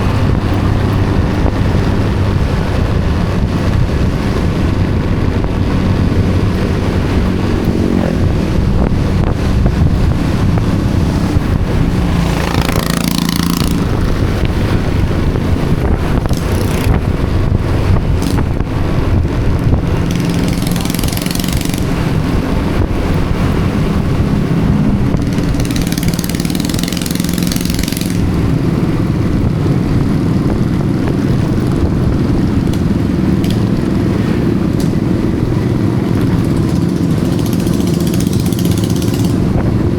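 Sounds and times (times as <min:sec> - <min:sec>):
motorcycle engine running: 0:00.0 - 0:39.9
rushes of noise: 0:00.0 - 0:39.9.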